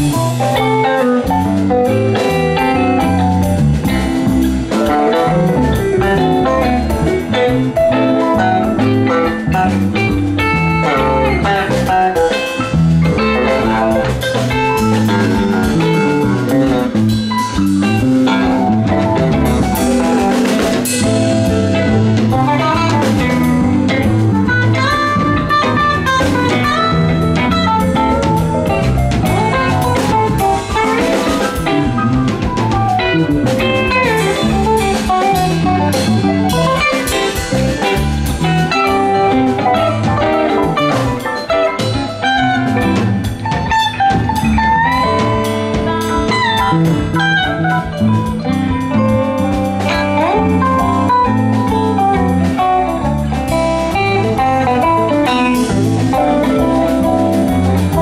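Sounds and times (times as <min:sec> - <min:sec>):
electric guitar lead: 0:00.0 - 0:58.0
rock band playing: 0:00.0 - 0:58.0.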